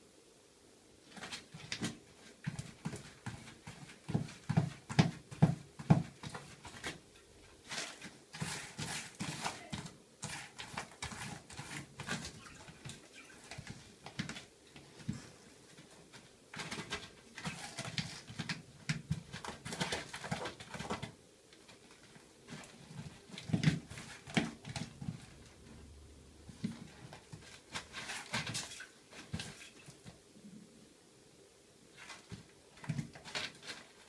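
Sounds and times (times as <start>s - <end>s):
cat scratching litter: 1.0s - 25.9s, 26.5s - 30.2s, 31.9s - 34.0s.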